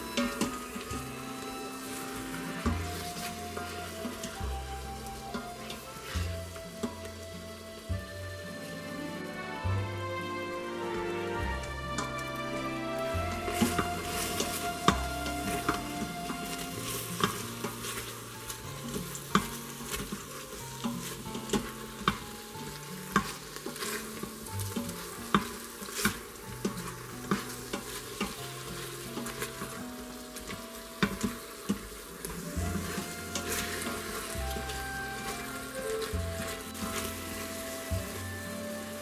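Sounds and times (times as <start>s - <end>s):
spatula scraping a pot: 0.0s - 7.2s, 11.4s - 39.0s
meat sizzling in oil: 0.0s - 39.0s.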